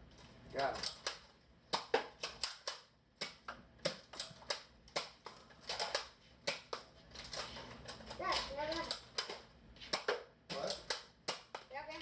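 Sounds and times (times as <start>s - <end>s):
sharp clicks and taps: 0.8s - 12.0s.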